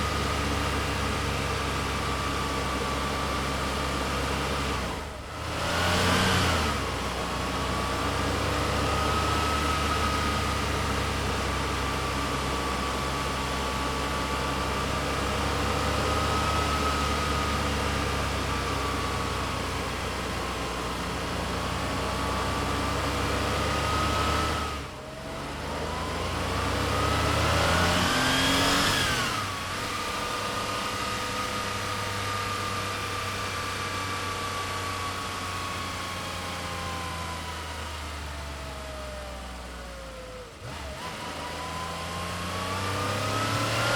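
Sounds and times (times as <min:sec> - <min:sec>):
car engine revving: 0:00.0 - 0:38.1, 0:40.5 - 0:43.9.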